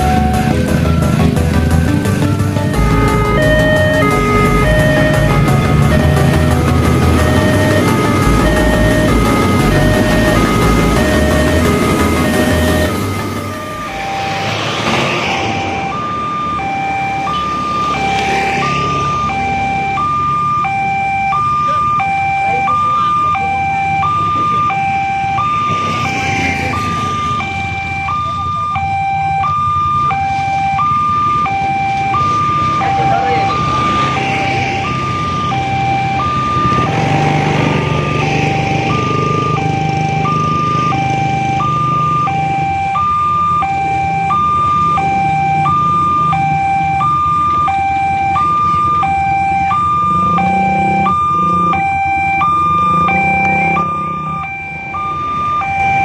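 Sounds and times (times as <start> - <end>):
motorcycle engines running: 0.0 - 28.8, 31.5 - 56.0
passing traffic: 0.0 - 56.0
two-tone level crossing alarm: 0.0 - 56.0.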